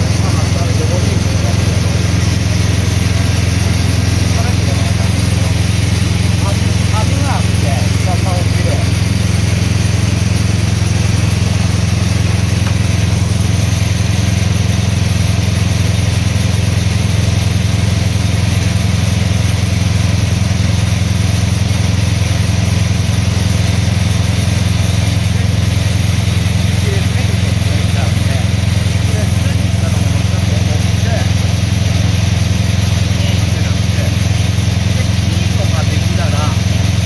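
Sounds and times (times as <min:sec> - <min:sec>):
harvester engine droning: 0:00.0 - 0:37.0.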